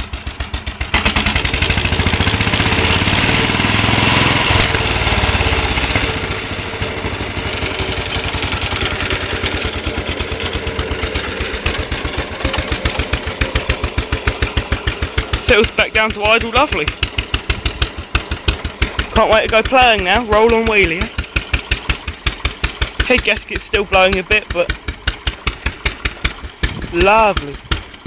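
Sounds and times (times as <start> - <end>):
tractor engine revving and idling: 0.0 - 28.0.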